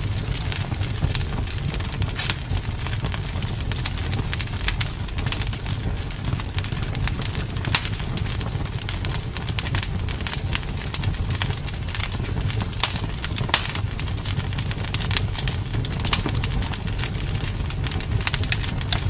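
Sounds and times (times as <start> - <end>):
fire crackling: 0.0 - 19.0
low fire rumble: 0.0 - 19.0.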